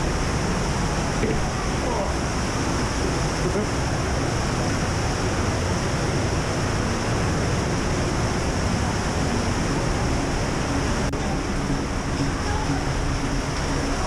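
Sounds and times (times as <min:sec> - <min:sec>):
cave stream rushing over rocks: 0:00.0 - 0:14.0.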